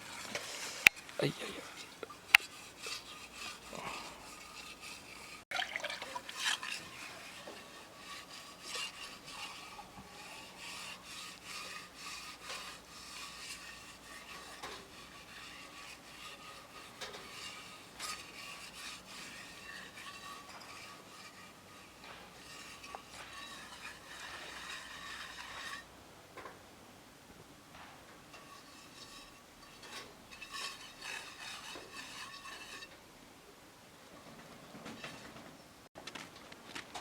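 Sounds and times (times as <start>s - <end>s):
rubbing and scraping by hand: 0.0s - 26.6s, 27.5s - 37.0s.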